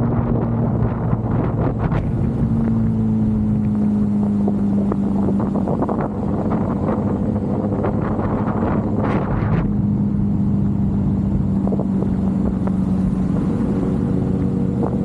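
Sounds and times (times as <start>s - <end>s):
motorcycle engine cruising: 0.0s - 15.0s
wind buffeting microphone: 0.0s - 15.0s.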